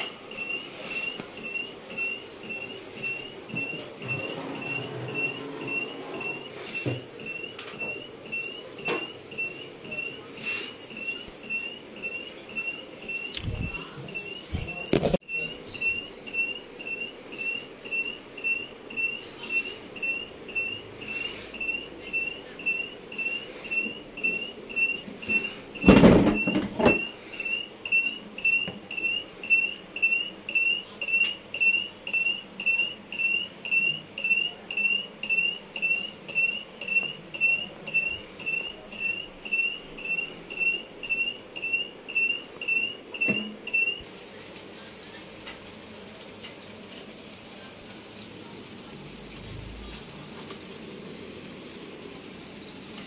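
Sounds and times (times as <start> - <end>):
high-pitched electronic beeps: 0.3 - 10.2, 10.8 - 44.0.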